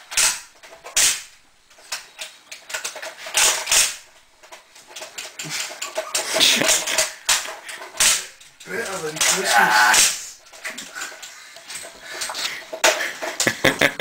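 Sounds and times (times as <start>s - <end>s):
toy gun plastic clicks: 1.9s - 13.5s.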